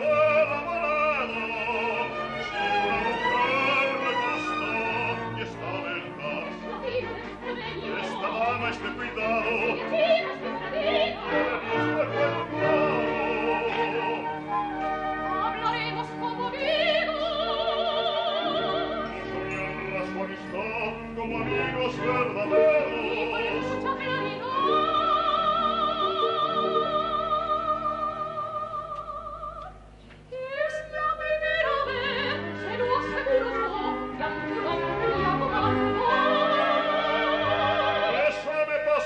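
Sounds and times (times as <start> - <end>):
operatic singing with vibrato: 0.0 - 39.0
orchestra: 0.0 - 39.0.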